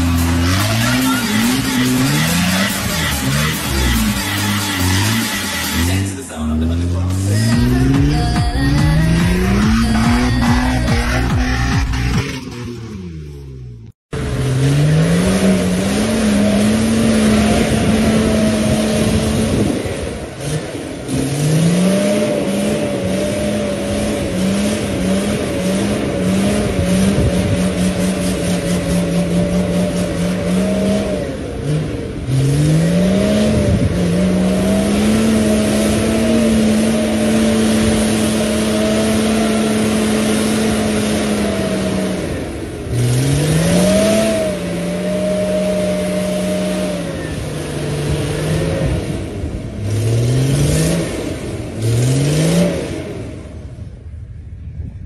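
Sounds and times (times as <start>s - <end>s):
engine revving hard: 0.0s - 53.5s.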